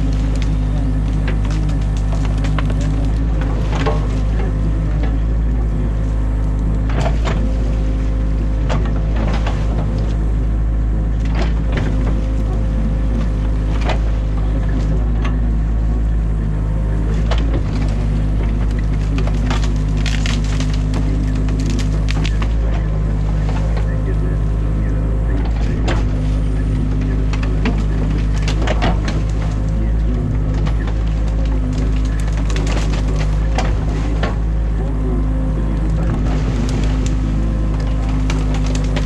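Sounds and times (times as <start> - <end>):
branches cracking and snapping: 0.0 - 39.0
diesel engine running: 0.0 - 39.0.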